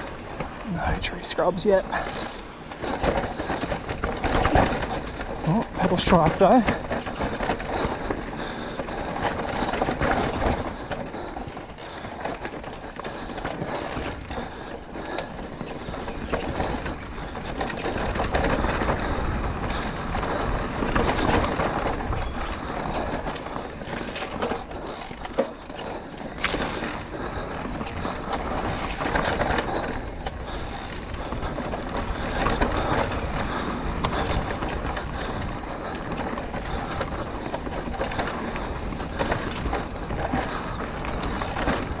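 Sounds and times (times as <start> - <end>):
bike frame rattling: 0.0 - 42.0
bike tyres on dirt: 0.0 - 42.0.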